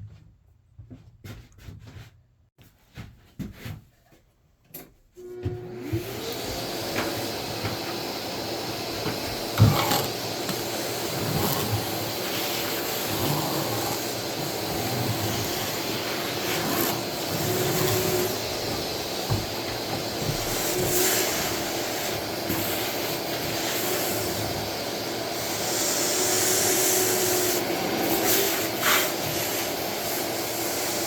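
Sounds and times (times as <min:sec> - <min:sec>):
circular saw cutting wood: 0:05.7 - 0:31.0.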